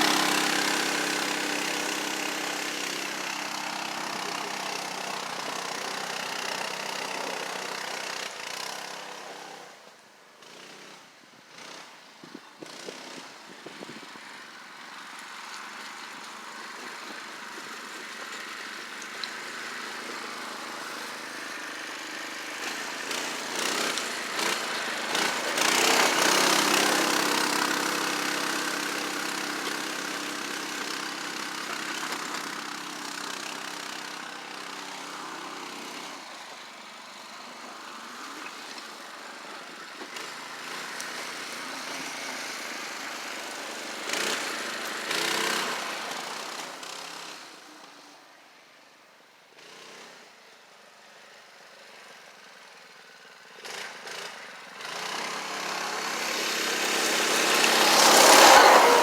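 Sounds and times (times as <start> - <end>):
atv engine running: 0.0 - 9.4, 15.0 - 47.4, 51.2 - 59.0.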